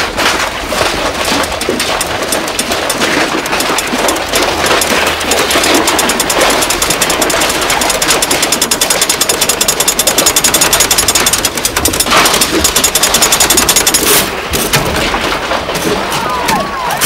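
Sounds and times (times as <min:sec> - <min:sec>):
rapid mechanical hammering rattle: 0:00.0 - 0:16.2.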